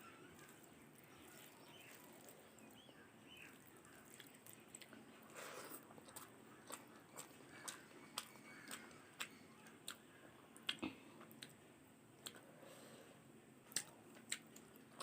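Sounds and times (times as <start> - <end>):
faint chewing: 0.0 - 15.0.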